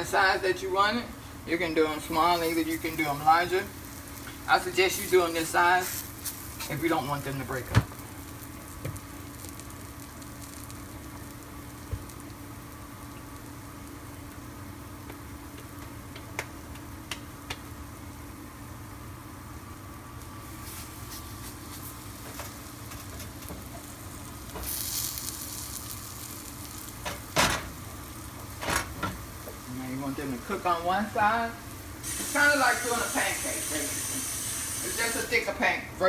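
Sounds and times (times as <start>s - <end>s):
dough sizzling in hot oil: 0.0s - 35.6s.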